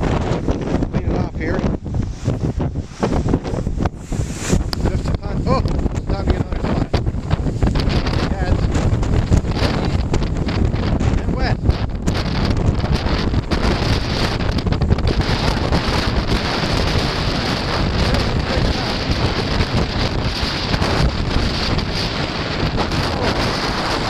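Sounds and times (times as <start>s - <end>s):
storm waves rushing: 0.0s - 24.0s
wind buffeting microphone: 0.0s - 24.0s.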